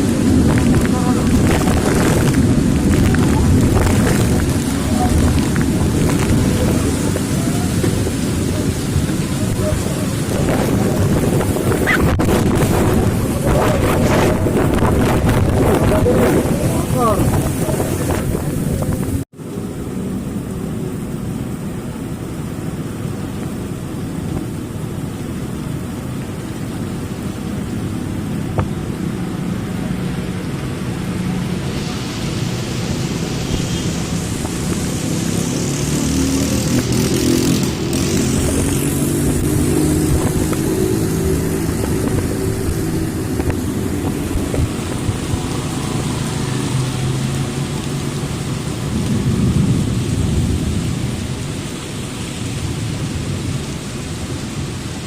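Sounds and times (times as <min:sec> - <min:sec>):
heavy rain: 0:00.0 - 0:55.0
vehicles passing on wet road: 0:00.0 - 0:55.0.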